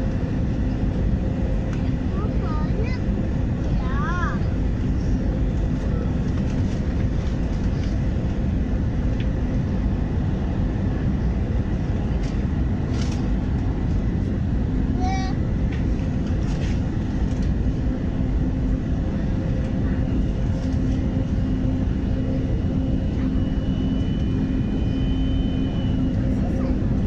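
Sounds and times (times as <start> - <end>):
airliner engines roaring in cabin: 0.0 - 27.0
low hum: 0.0 - 27.0.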